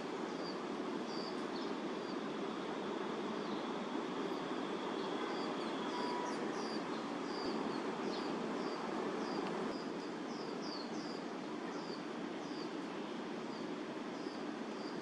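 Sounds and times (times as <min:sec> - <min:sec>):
distant city traffic hum: 0:00.0 - 0:15.0.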